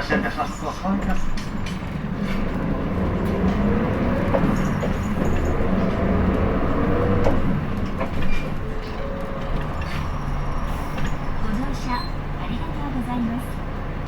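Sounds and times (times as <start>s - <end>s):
bus diesel engine accelerating: 0.0s - 14.0s.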